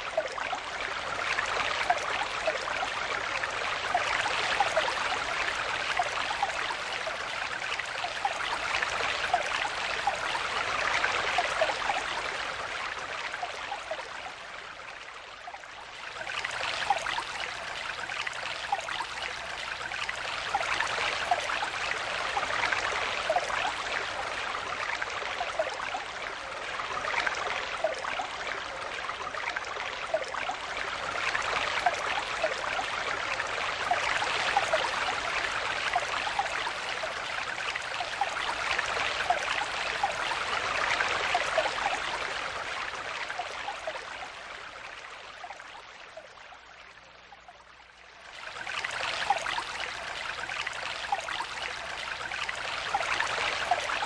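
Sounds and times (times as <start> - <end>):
stream babbling over stones: 0.0 - 47.4, 48.2 - 54.0.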